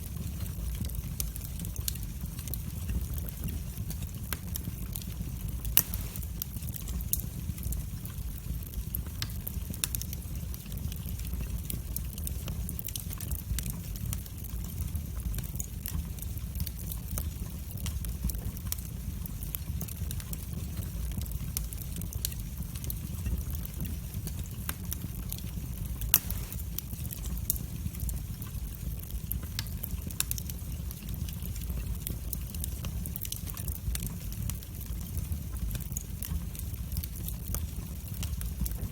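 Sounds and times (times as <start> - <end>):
fire crackling and popping: 0.0 - 38.9
flames rumbling: 0.0 - 38.9.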